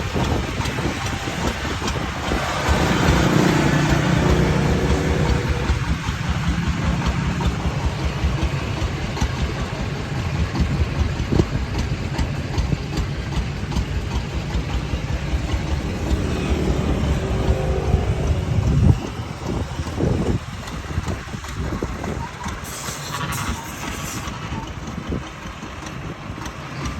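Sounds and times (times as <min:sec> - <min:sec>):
diesel engine pulsing: 0:00.0 - 0:26.9.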